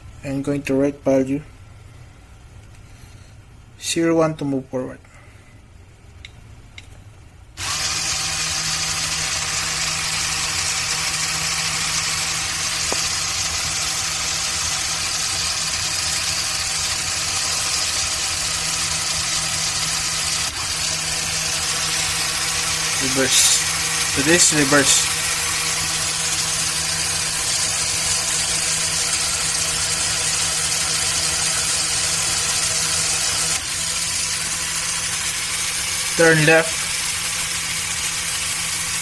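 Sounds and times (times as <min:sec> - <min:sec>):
electric motor whir: 0:07.6 - 0:39.0.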